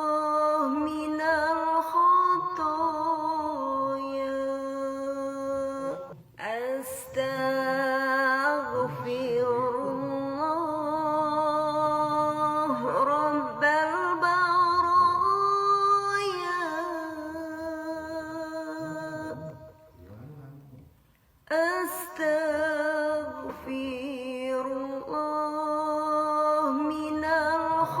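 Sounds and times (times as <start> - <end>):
person chanting a devotional melody: 0.0 - 20.5, 21.5 - 28.0.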